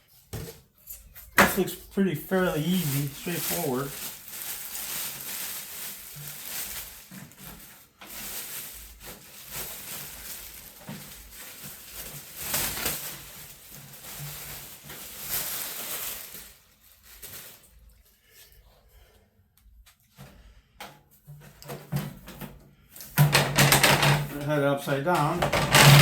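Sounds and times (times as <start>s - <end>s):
packaging rustling and crinkling: 0.3s - 18.0s, 21.7s - 26.0s.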